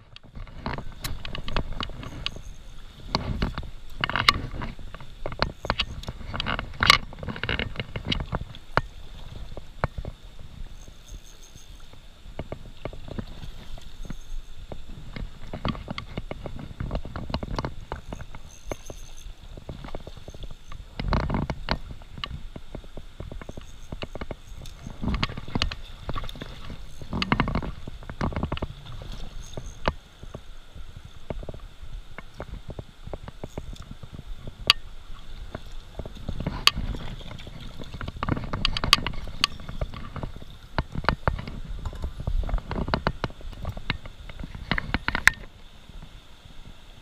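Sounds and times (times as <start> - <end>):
water splashing and sloshing: 0.0 - 47.0.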